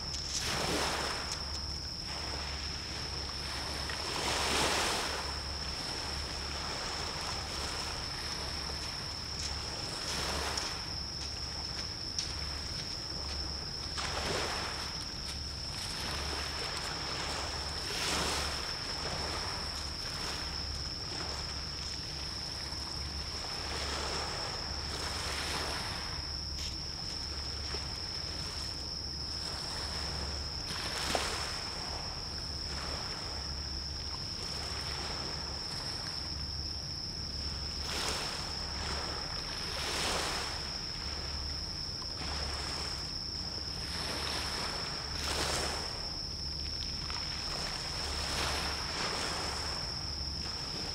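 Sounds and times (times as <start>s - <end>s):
small waves washing against shore: 0.0s - 36.6s, 37.2s - 50.9s.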